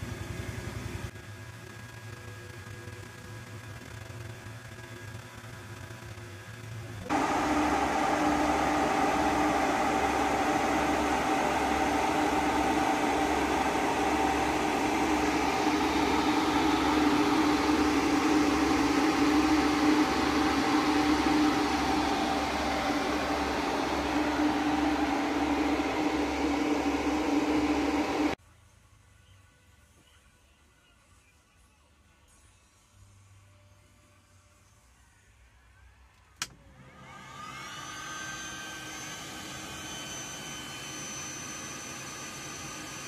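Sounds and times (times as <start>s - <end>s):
cooling fans and pump whirring: 0.0s - 28.4s, 36.4s - 43.0s.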